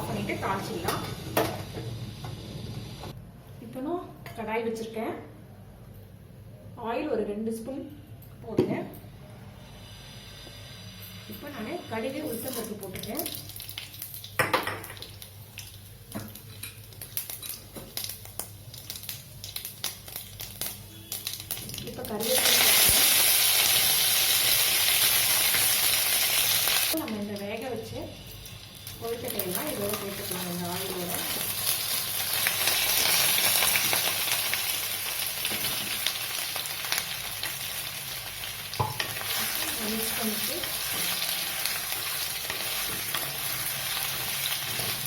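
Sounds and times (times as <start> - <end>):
hot oil sizzling: 0.0 - 3.2, 9.6 - 45.0.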